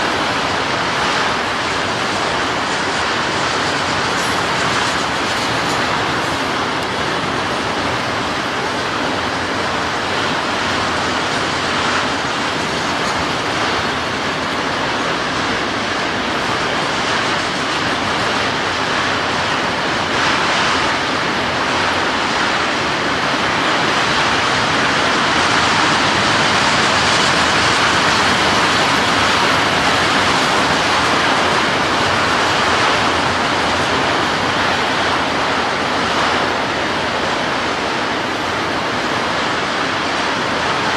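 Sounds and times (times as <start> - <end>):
train wheels rolling on rail: 0.0 - 40.9.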